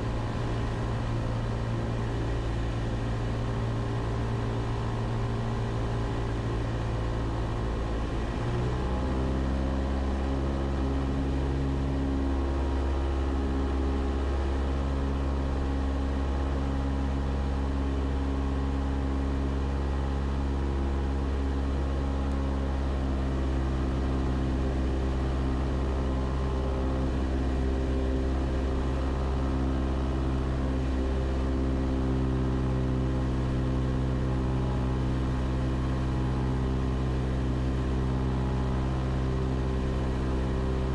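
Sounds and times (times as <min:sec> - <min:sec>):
small plane engine and propeller: 0:00.0 - 0:40.9.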